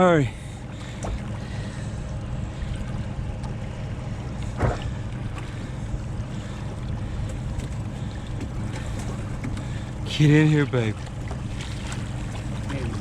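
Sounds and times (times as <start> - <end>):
boat motor rumbling: 0.0 - 13.0.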